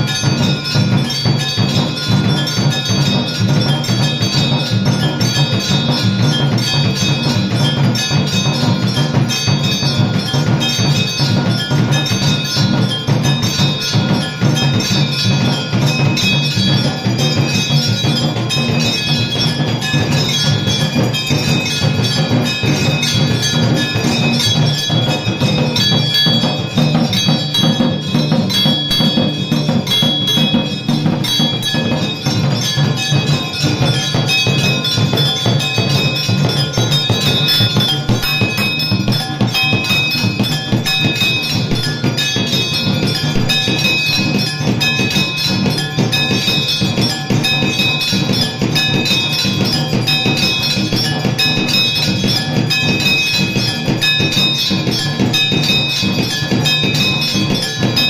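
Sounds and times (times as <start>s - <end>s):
beaten percussion: 0.0s - 58.0s
temple bells clanging: 0.0s - 58.0s.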